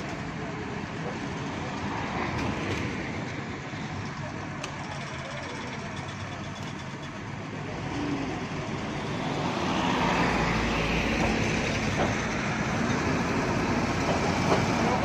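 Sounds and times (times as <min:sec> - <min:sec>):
heavy vehicle engine: 0:00.0 - 0:15.0
road noise: 0:00.0 - 0:15.0.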